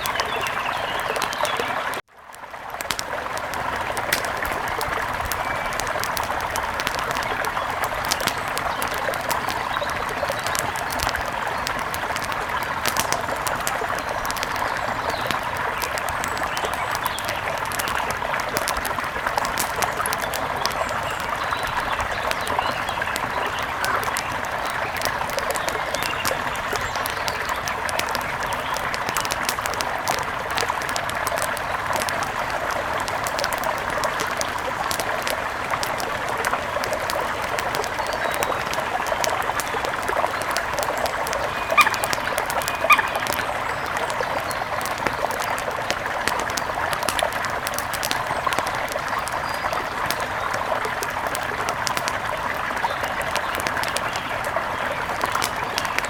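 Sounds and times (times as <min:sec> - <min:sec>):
light ticks: 0:02.3 - 0:52.2.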